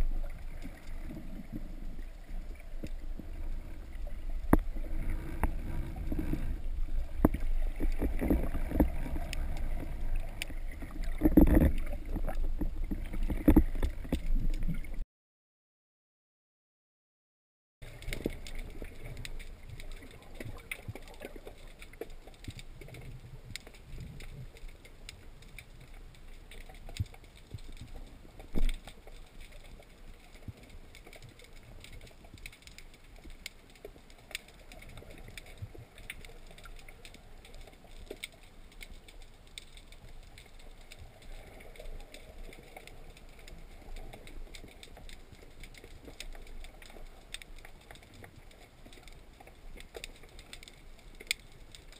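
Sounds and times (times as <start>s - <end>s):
underwater clicks and crackles: 0.0s - 15.0s, 17.8s - 51.9s
underwater rumble of moving water: 0.0s - 15.0s, 17.8s - 51.9s.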